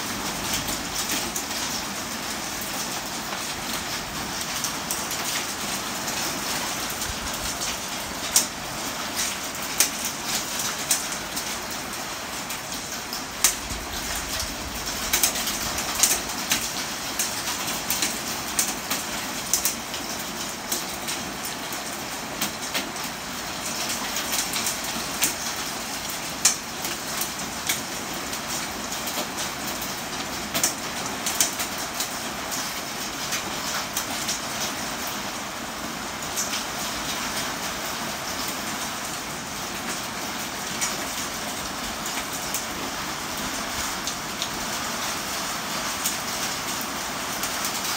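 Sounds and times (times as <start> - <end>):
raindrops ticking on surfaces: 0.0 - 47.9
steady rain: 0.0 - 47.9.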